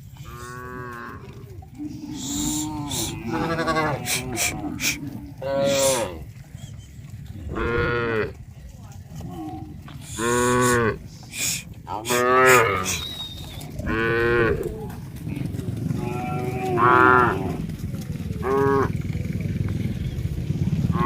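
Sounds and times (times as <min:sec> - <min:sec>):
cows mooing: 0:00.0 - 0:08.4, 0:09.2 - 0:19.2, 0:20.8 - 0:21.0
low rumble: 0:00.0 - 0:21.0.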